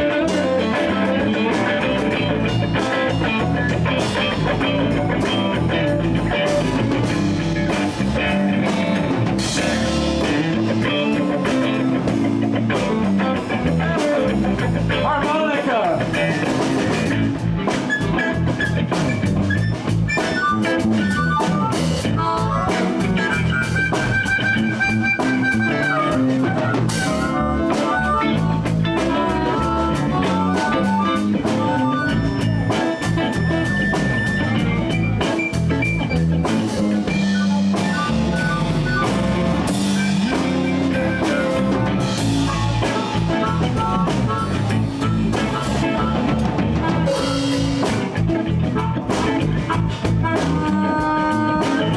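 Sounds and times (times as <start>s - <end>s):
electric guitar lead line: 0.0s - 51.9s
live blues band playing: 0.0s - 51.9s.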